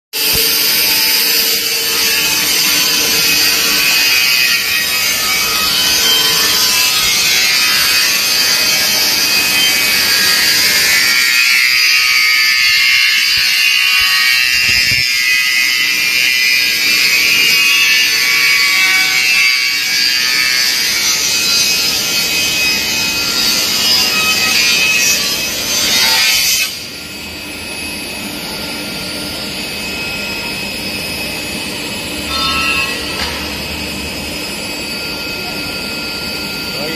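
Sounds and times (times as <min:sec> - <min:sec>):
saw machine cutting wood: 0:00.2 - 0:36.9.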